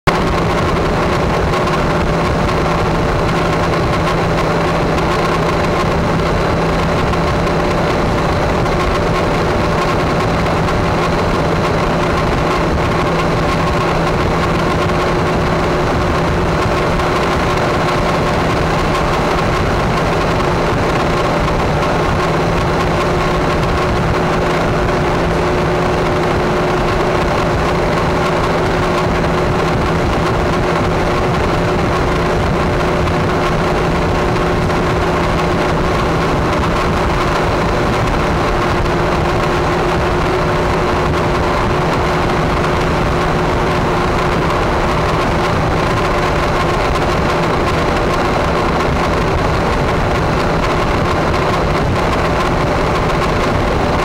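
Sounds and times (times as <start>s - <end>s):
car engine drone: 0.0s - 54.0s
road and wind noise: 0.0s - 54.0s.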